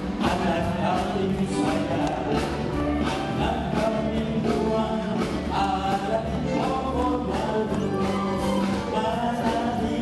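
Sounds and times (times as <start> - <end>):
man singing into microphone: 0.0 - 10.0
pop backing music: 0.0 - 10.0.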